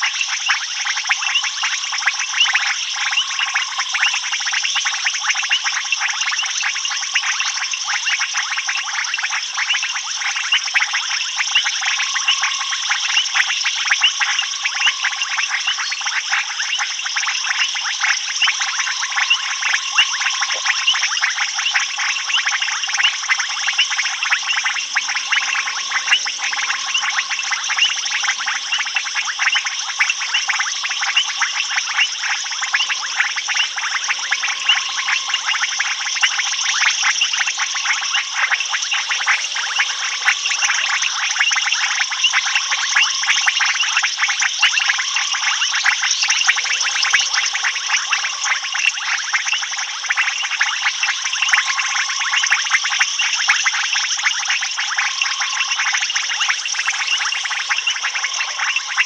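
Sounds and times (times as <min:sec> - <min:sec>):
frogs and insects chorus: 0:00.0 - 0:59.0
low repeated frog call: 0:00.0 - 0:59.0.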